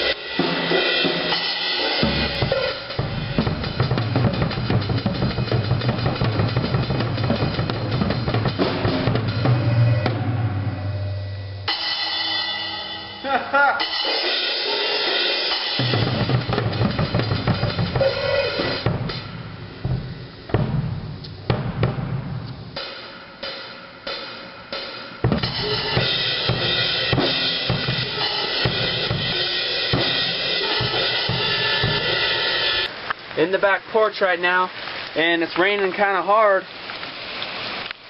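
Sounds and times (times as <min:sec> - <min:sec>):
drum kit playing: 0:00.0 - 0:32.9.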